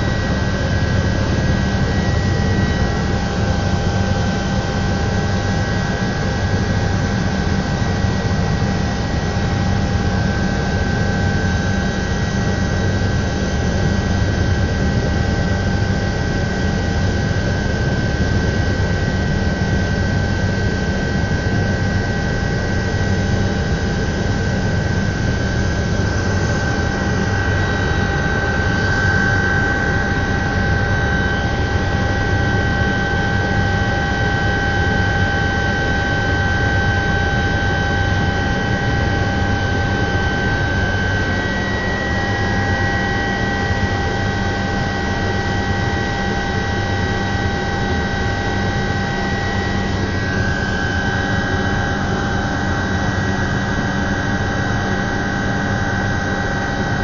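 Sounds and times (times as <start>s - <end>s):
helicopter rotor drone: 0.0s - 57.0s
turbine engine high whine: 0.0s - 57.0s.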